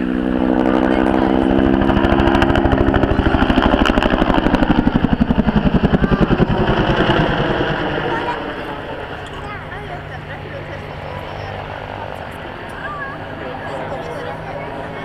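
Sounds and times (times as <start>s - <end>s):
helicopter flying past: 0.0s - 15.0s.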